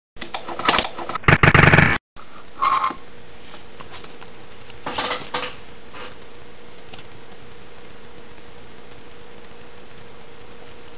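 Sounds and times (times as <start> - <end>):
faint hum: 1.1 - 10.9.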